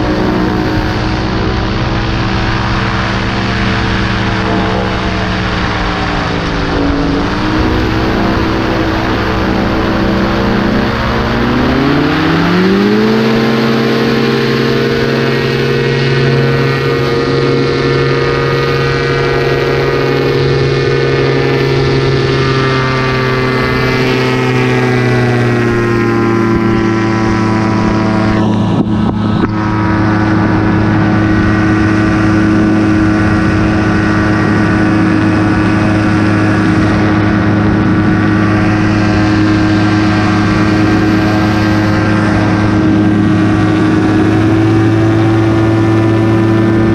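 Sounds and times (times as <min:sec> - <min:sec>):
paramotor engine and propeller: 0:00.0 - 0:46.9.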